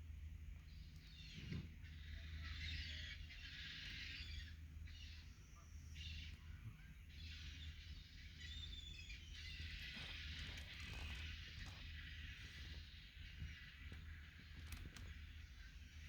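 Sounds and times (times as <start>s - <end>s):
steady low hum: 0.0s - 16.0s
gulls calling: 1.2s - 16.0s.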